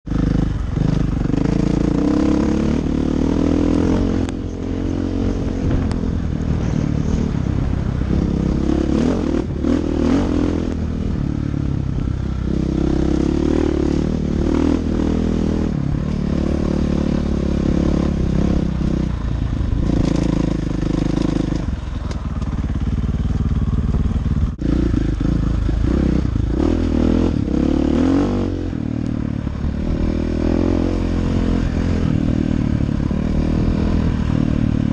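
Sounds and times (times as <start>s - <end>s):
dirt bike engine revving: 0.1s - 21.8s, 22.6s - 34.9s.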